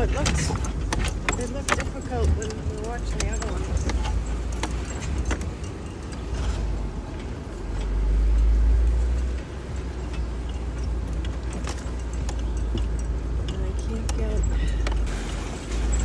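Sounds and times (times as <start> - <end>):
loose objects rattling and clicking: 0.0 - 16.0
vehicle engine and tyre rumble: 0.0 - 16.0.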